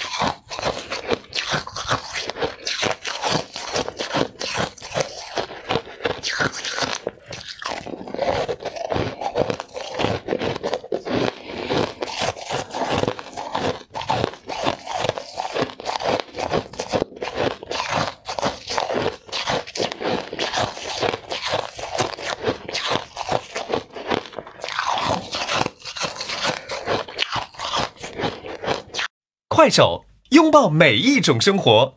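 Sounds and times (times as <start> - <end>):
ice being chewed: 0.0 - 29.1.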